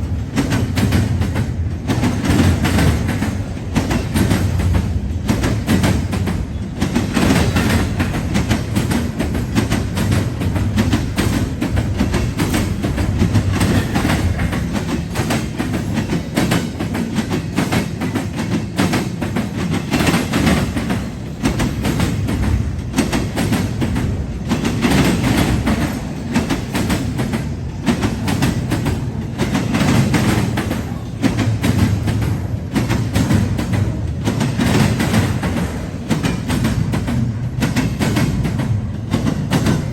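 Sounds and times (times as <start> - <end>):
freight train rumbling: 0.0 - 39.9
wheels clicking over rail joints: 0.0 - 39.9.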